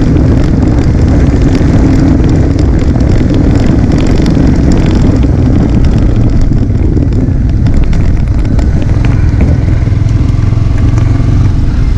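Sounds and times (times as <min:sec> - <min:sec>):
motorcycle engine running: 0:00.0 - 0:11.9
wind on microphone: 0:00.0 - 0:11.9.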